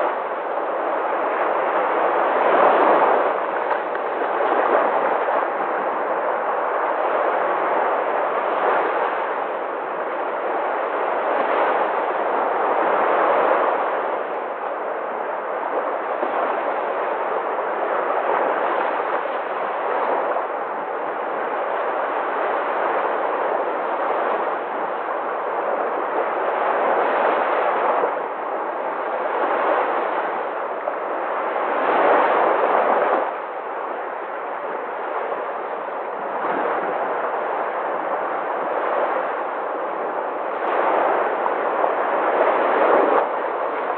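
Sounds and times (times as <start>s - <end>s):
sea waves breaking: 0.0s - 43.9s.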